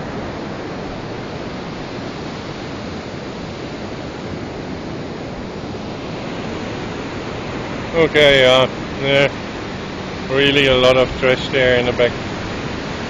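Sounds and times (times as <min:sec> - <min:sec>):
surf breaking on a beach: 0:00.0 - 0:13.0
wind: 0:00.0 - 0:13.0.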